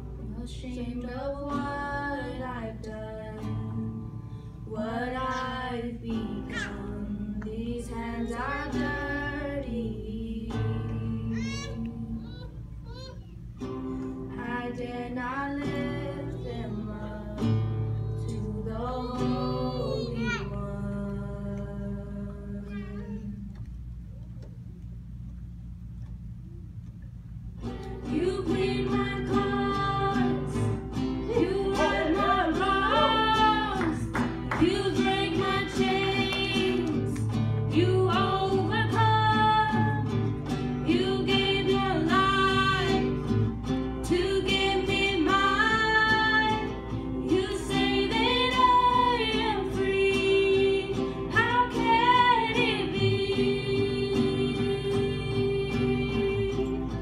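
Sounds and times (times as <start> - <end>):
girls singing worship song: 0.0 - 12.3, 14.3 - 22.6, 28.0 - 57.0
acoustic guitar: 0.0 - 57.0.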